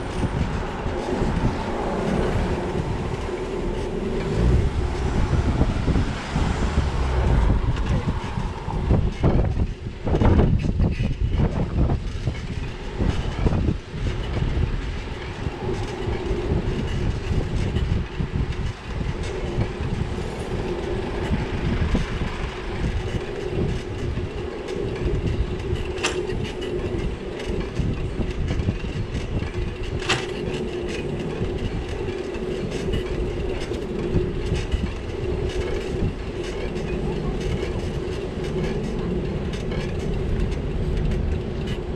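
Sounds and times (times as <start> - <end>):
bicycle ride rattling rumble: 0.0 - 41.9.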